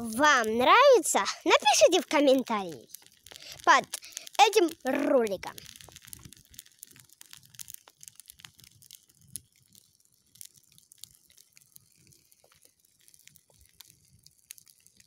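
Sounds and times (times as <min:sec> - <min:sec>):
dry grass crackling on a bonfire: 0:00.0 - 0:15.0.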